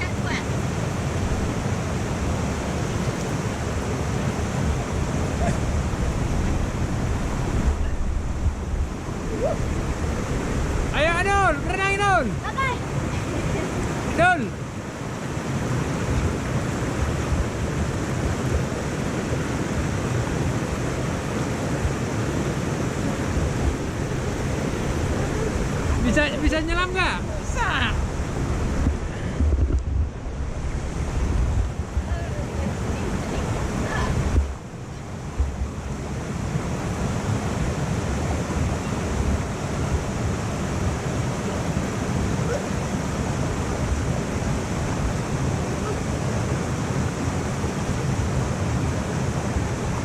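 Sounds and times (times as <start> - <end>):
wind buffeting microphone: 0.0 - 14.2, 14.8 - 50.0
waterfall rushing: 0.0 - 29.4, 30.2 - 50.0.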